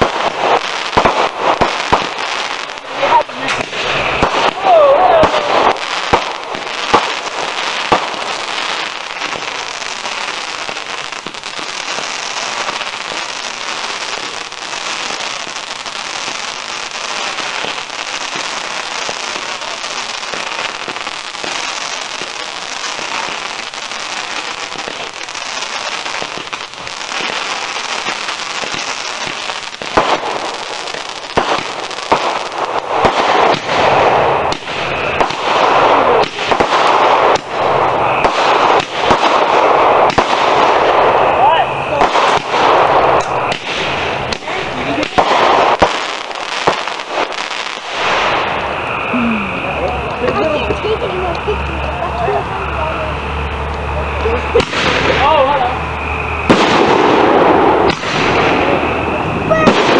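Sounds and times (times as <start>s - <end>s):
fireworks bangs: 0.0s - 59.9s
fireworks crackling: 0.0s - 59.9s.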